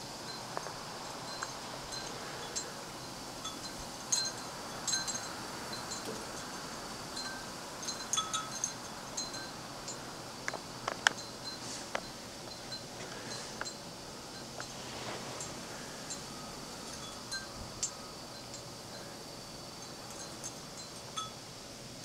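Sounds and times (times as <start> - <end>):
wind hiss: 0.0 - 22.0
high tinkling clicks: 0.3 - 2.7, 3.4 - 19.1, 19.8 - 21.4.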